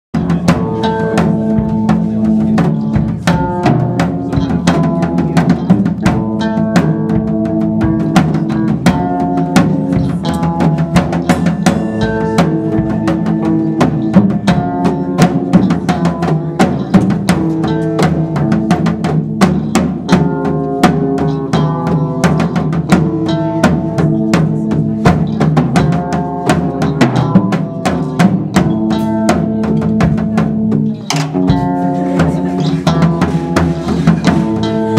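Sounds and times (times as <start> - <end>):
band playing instrumental music: 0.1 - 34.9
drum kit fast rhythm: 0.1 - 34.9.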